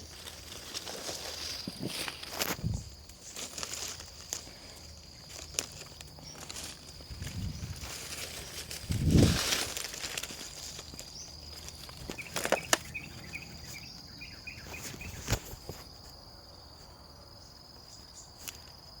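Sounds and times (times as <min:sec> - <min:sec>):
insect trilling: 0:00.0 - 0:18.4
insect chirps: 0:00.0 - 0:19.0.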